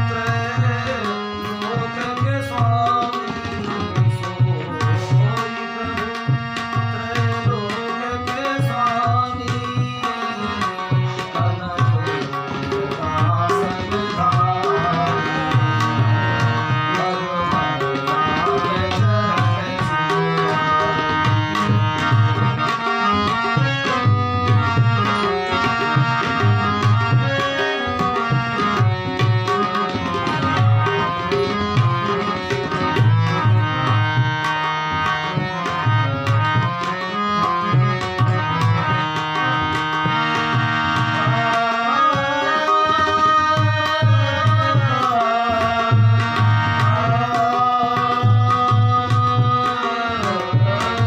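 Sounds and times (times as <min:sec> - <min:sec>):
tabla playing a steady rhythm: 0:00.0 - 0:51.0.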